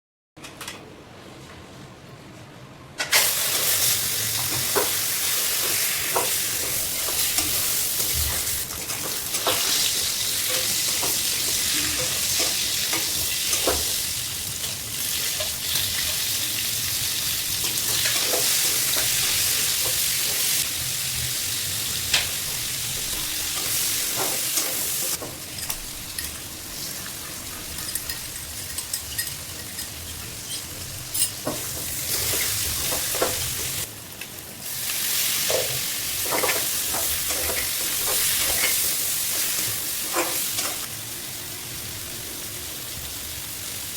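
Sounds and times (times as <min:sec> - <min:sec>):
pork sizzling in a pan: 0:03.1 - 0:43.9.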